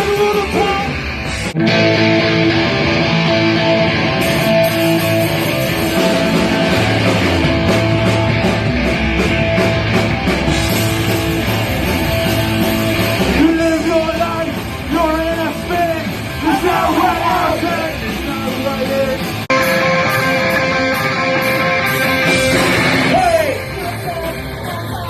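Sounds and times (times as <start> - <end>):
bending electric guitar lead: 0.0 - 25.0
punk rock band playing: 0.0 - 25.0.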